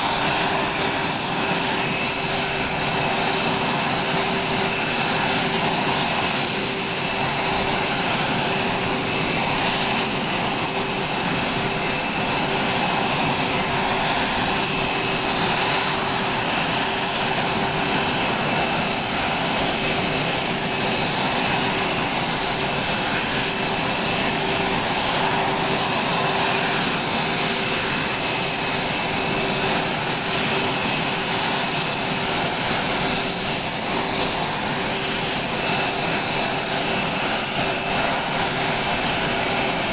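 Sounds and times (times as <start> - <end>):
jet turbine whine: 0.0 - 39.9.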